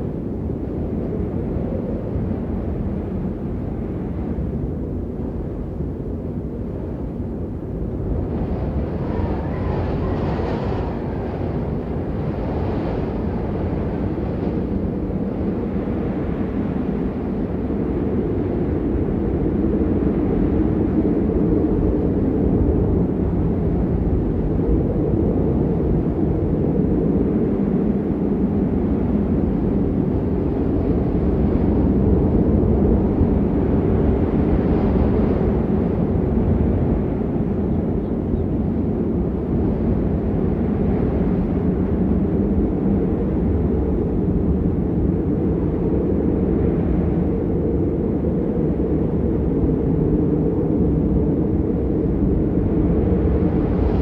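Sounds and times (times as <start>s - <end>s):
blizzard wind blowing: 0.0s - 54.0s.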